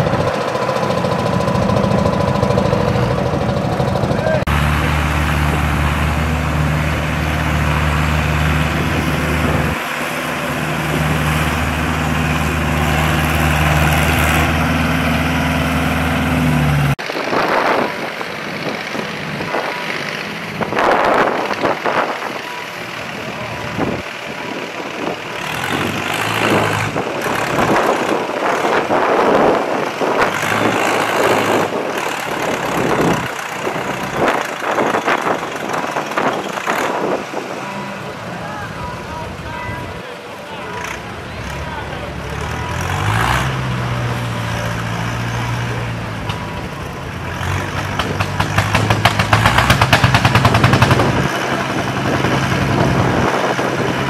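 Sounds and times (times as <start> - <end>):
tractor engines labouring in mud: 0.0 - 54.0.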